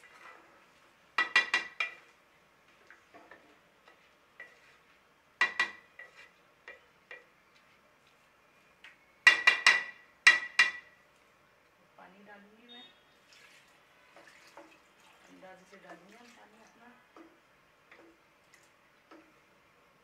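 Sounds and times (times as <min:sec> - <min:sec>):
faint stirring in pot: 0:00.0 - 0:11.4, 0:12.8 - 0:20.0.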